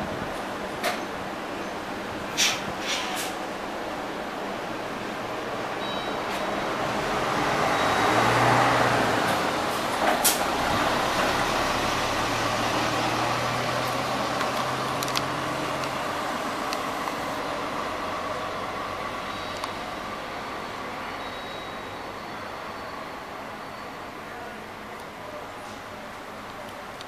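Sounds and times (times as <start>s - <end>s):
bus passing and pulling away: 0.0s - 27.0s.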